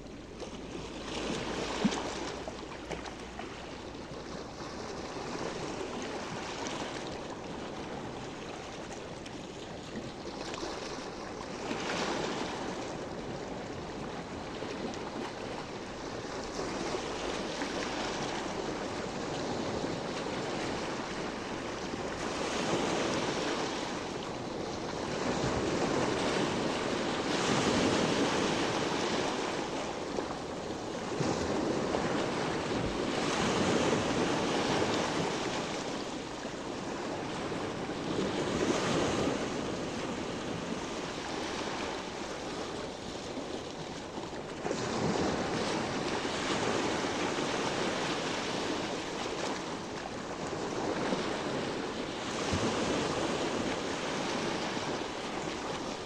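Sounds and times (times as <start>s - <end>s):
sea waves washing ashore: 0.0s - 56.0s
wind on microphone: 0.0s - 56.0s.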